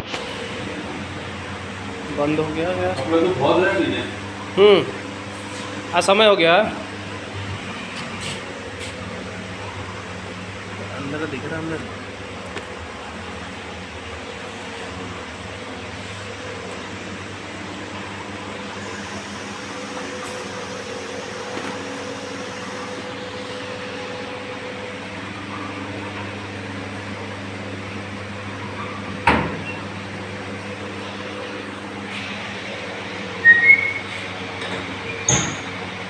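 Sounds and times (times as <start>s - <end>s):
laundry machinery hum: 0.0s - 36.0s.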